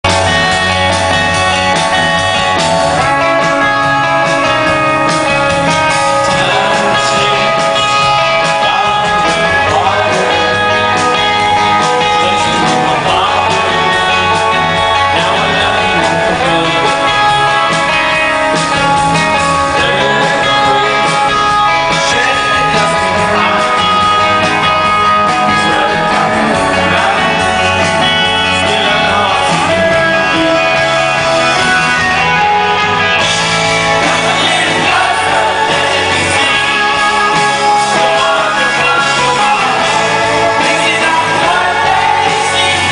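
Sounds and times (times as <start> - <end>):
bass guitar: 0.0 - 42.9
drums: 0.0 - 42.9
electric guitar: 0.0 - 42.9
man singing: 2.3 - 42.9.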